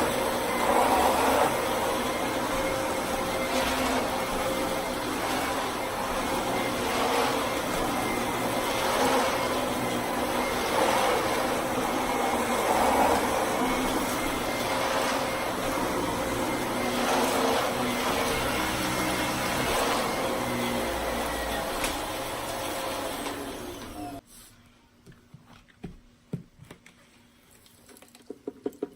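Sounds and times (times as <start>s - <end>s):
vacuum cleaner running: 0.0s - 24.2s.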